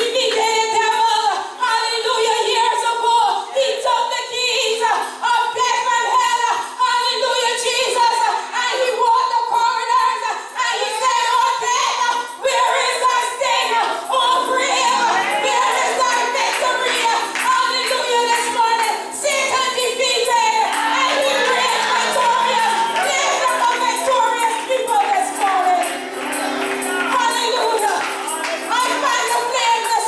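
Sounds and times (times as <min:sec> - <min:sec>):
voices singing worship song: 0:00.0 - 0:30.0
woman singing: 0:00.0 - 0:30.0.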